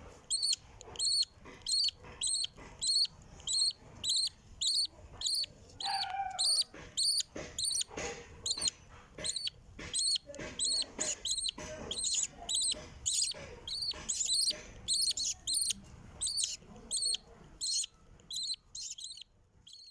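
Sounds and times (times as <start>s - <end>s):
baby birds begging chirps: 0.1s - 19.9s.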